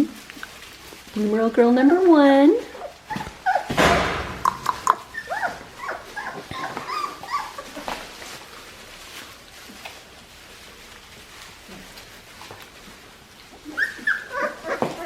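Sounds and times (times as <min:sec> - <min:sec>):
puppies whimpering and squeaking: 0:00.0 - 0:09.9, 0:11.9 - 0:15.0
rustling: 0:00.0 - 0:15.0.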